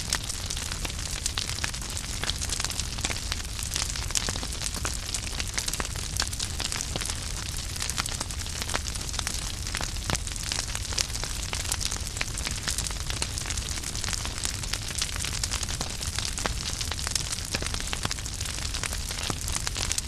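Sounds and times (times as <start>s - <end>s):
low rumble of burning: 0.0s - 20.0s
wood fire crackling: 0.0s - 20.0s.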